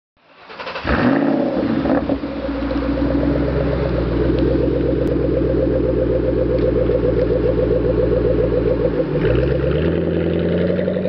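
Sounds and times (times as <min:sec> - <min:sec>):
car engine flaring then idling: 0:00.4 - 0:11.0.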